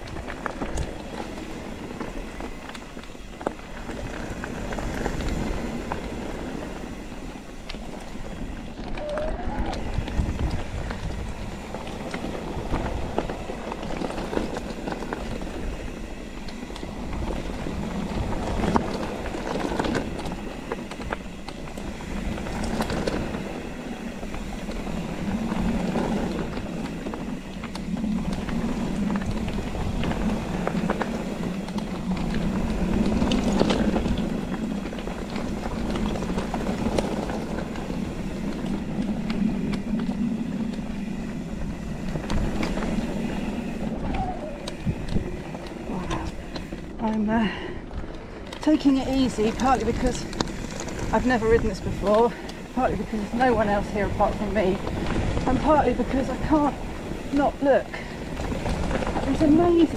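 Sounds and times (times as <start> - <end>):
bicycle tyre noise on trail: 0.0 - 59.9
bike rattles and knocks: 0.0 - 59.9.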